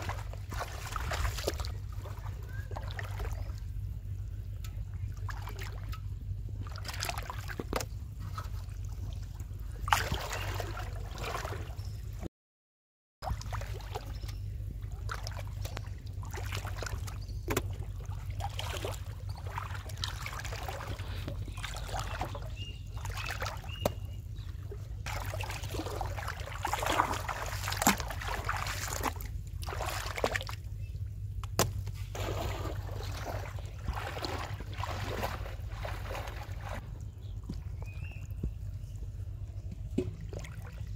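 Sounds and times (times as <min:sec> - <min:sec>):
steady low hum: 0:00.0 - 0:12.3, 0:13.2 - 0:40.9
water splashing and sloshing: 0:00.0 - 0:12.3, 0:13.2 - 0:40.9.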